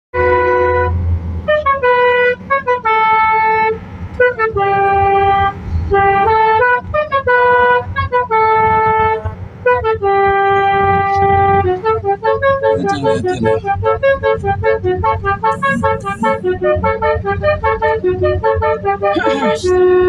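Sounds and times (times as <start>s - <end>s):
multi-tone bus horn melody: 0.1s - 20.0s.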